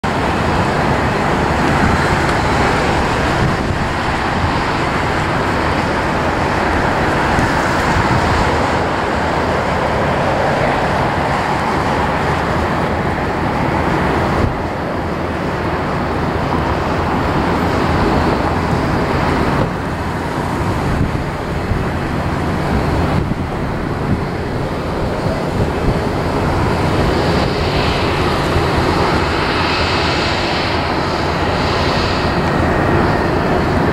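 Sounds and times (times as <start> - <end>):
jet roar: 0.0 - 33.9
wind on microphone: 0.0 - 33.9.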